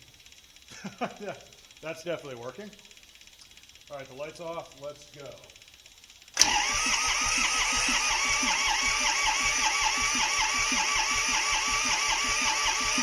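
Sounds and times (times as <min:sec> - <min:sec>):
diesel engine cranking: 0:00.0 - 0:13.0.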